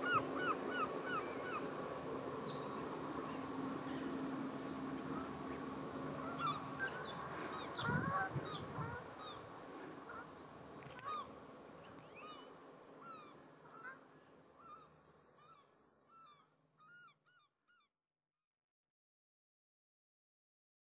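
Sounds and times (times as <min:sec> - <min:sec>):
steady background hum: 0:00.0 - 0:17.0
waterbirds calling: 0:00.0 - 0:17.4.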